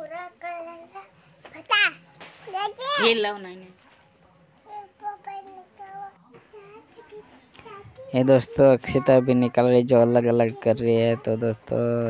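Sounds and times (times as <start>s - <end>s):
child singing quietly: 0.0s - 3.2s, 4.1s - 12.0s.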